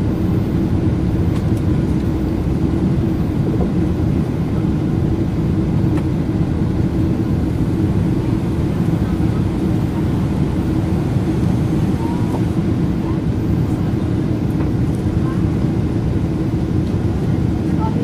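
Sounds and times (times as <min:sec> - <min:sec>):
aircraft engines roaring: 0:00.0 - 0:18.0
steady low hum: 0:00.0 - 0:18.0.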